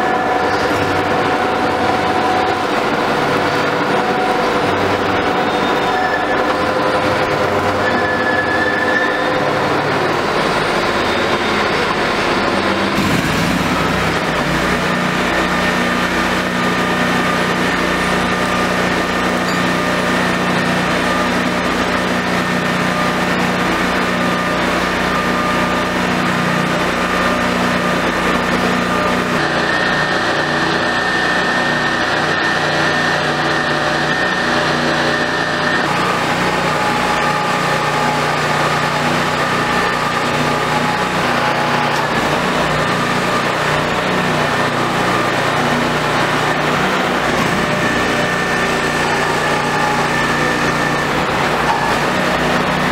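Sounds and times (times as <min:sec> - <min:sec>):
drilling rig engine running: 0:00.0 - 0:52.9.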